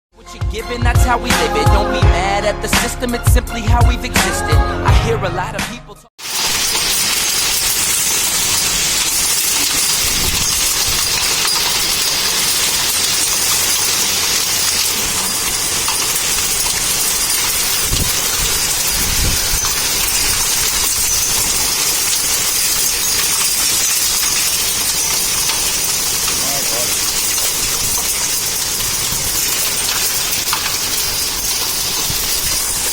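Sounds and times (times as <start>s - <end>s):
hail and rain pelting: 6.2s - 32.9s.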